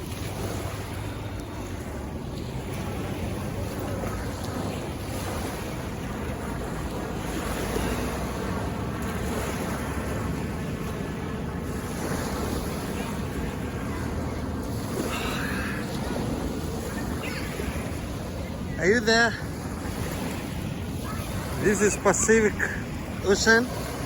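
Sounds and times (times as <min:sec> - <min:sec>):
wind buffeting microphone: 0:00.0 - 0:22.0
surf washing onto beach: 0:00.0 - 0:24.0.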